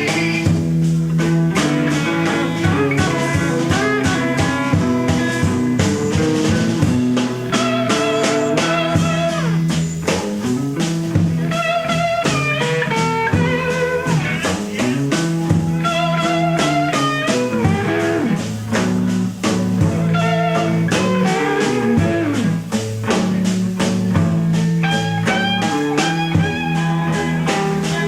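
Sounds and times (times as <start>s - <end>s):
drum kit beat: 0.0s - 28.0s
electric guitar: 0.0s - 28.0s
slide guitar: 0.0s - 28.0s.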